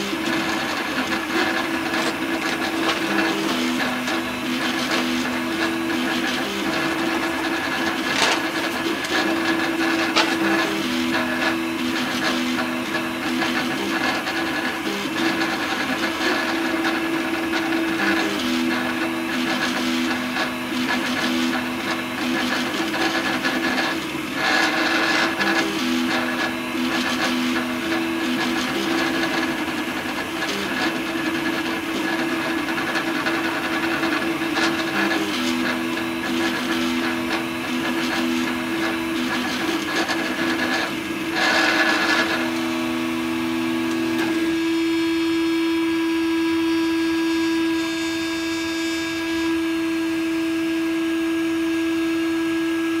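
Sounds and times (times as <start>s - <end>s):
stepper motors whining: 0.0s - 45.9s.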